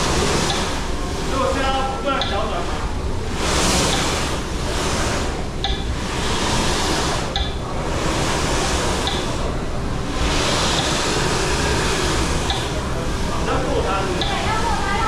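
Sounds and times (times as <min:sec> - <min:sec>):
machine low rumble: 0:00.0 - 0:15.0.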